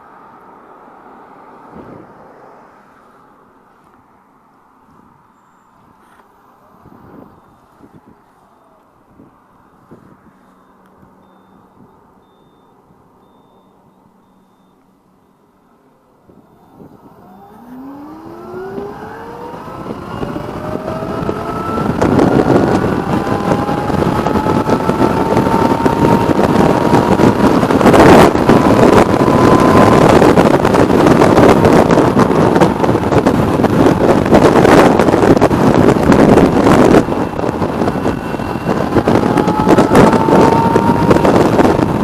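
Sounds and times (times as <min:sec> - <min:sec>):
wind noise on microphone: 0:01.6 - 0:02.4, 0:04.9 - 0:14.7, 0:16.2 - 0:42.0
electric motorcycle whine: 0:05.3 - 0:12.5, 0:15.4 - 0:42.0.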